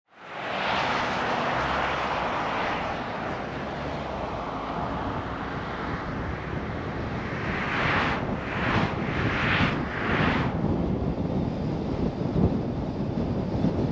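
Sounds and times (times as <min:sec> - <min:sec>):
tyre and wind noise: 0:00.5 - 0:13.9.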